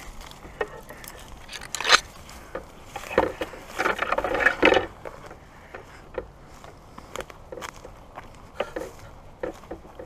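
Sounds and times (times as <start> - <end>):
footsteps crunching through dry leaves: 0.0 - 9.8
brush and twigs rustling: 0.0 - 10.0.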